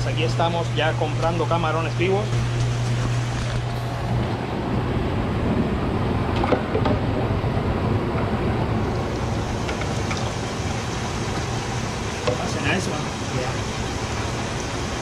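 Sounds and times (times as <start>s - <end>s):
rushing water in tank: 0.7s - 15.0s.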